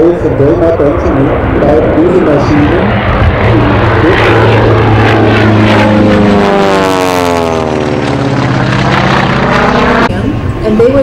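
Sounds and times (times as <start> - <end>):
radial engine and propeller: 0.0 - 11.0.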